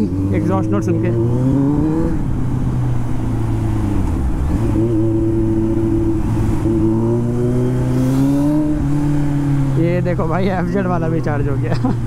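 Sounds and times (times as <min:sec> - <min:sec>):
motorcycle engine and exhaust: 0:00.0 - 0:12.0.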